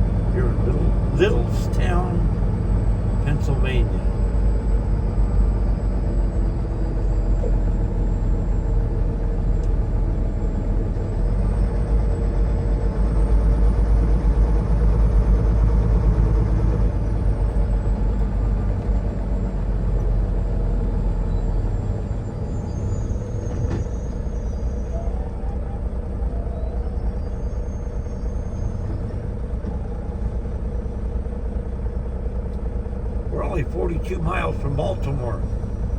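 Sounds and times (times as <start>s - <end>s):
road rumble: 0.0s - 35.9s
truck diesel engine: 0.0s - 35.9s.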